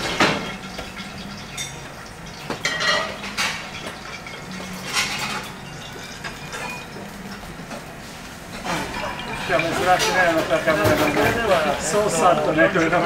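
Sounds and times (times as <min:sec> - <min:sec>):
plates and cutlery clinking: 0:00.0 - 0:13.0.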